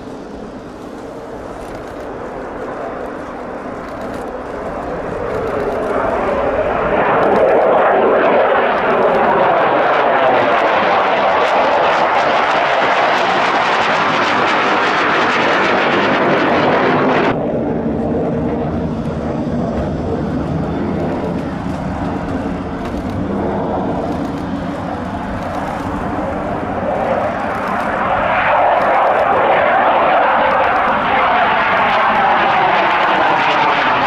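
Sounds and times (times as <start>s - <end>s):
jet engine fly-past: 0.0s - 34.0s
jets taking off: 0.0s - 34.0s.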